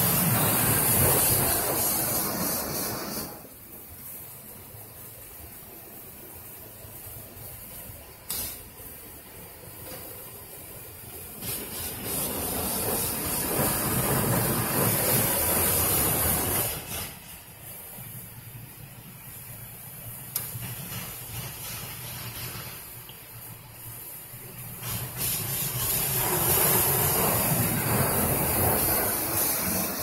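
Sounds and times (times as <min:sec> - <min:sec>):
loud spray hiss on windshield: 0:00.0 - 0:30.0
water jets hissing on car body: 0:00.0 - 0:30.0.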